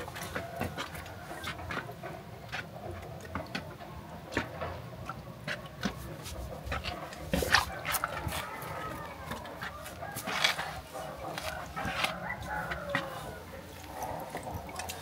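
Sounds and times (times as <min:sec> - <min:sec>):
water lapping and dripping: 0:00.0 - 0:15.0.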